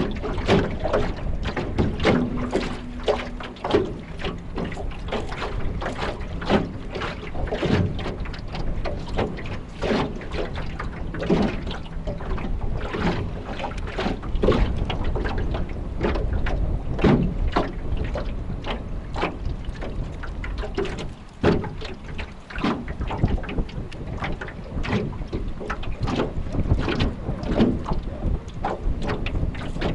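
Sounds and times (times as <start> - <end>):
water slapping against boat: 0.0 - 29.9
wind buffeting microphone: 0.0 - 29.9.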